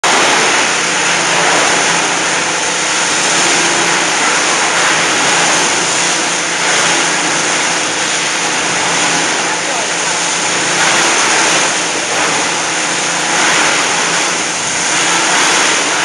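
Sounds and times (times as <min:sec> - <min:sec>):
plastic shredder running: 0:00.0 - 0:16.0.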